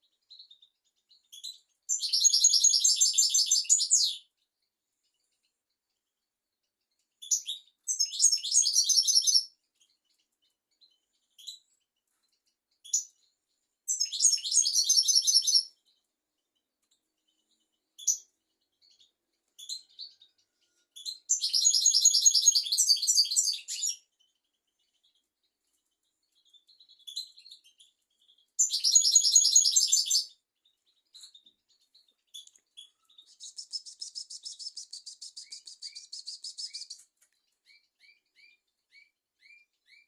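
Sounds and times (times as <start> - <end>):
goldfinch twittering song: 0.0 - 4.4, 7.1 - 11.7, 12.3 - 16.0, 17.2 - 40.0.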